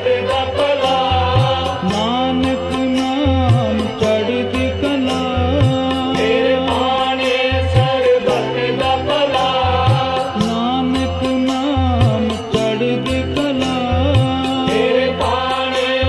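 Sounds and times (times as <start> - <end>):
mantra chanted to music: 0.0 - 16.0
percussion beat: 0.0 - 16.0.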